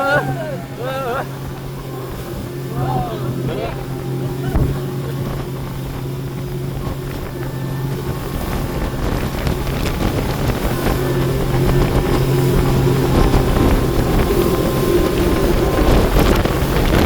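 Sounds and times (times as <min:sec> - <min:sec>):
speedboat engine humming: 0:00.0 - 0:17.0
wind buffeting microphone: 0:00.0 - 0:17.0.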